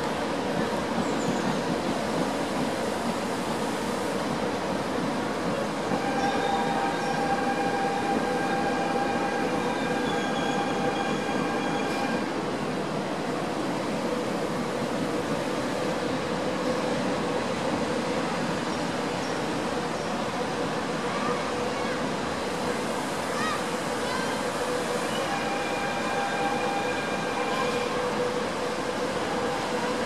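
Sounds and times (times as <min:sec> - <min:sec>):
trains rolling rumble: 0:00.0 - 0:30.0.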